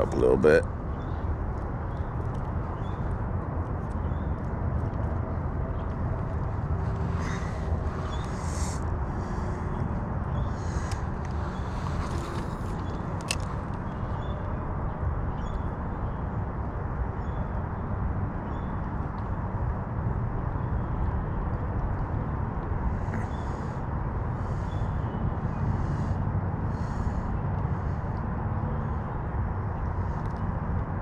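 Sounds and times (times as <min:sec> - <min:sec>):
outdoor background rumble: 0:00.0 - 0:31.0.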